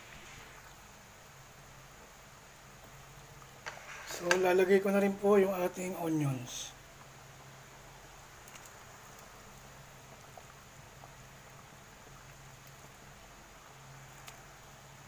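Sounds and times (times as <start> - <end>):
broth bubbling in a pot: 0.0 - 15.0.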